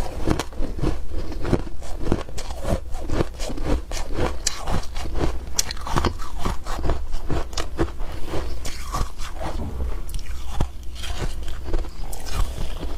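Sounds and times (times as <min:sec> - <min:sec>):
chewing ice crunches: 0:00.0 - 0:12.9.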